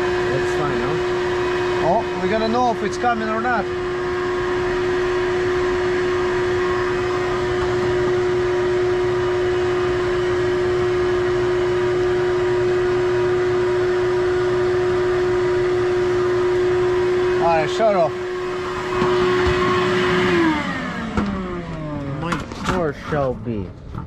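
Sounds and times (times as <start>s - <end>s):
vacuum humming: 0.0s - 23.3s.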